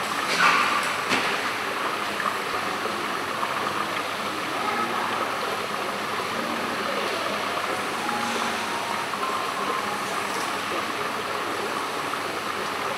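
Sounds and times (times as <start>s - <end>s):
running water rushing: 0.0s - 12.9s.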